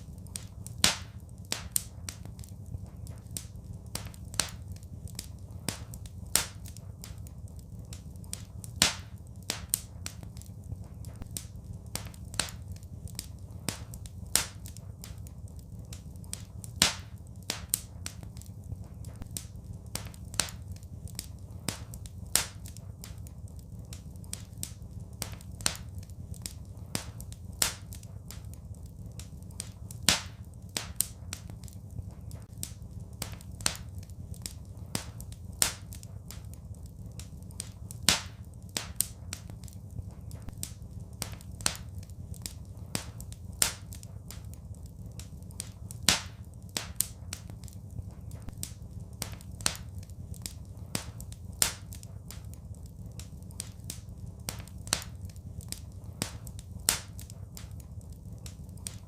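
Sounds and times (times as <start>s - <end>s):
low rumble: 0.0s - 59.0s
wood fire crackling: 0.0s - 59.0s.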